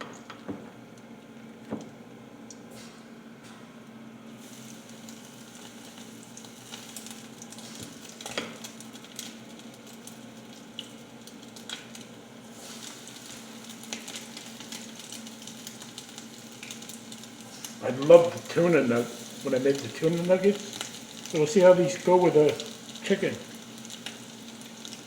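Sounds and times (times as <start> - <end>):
food deep-frying in oil: 4.3 - 25.0
oil crackles and pops: 4.3 - 25.0.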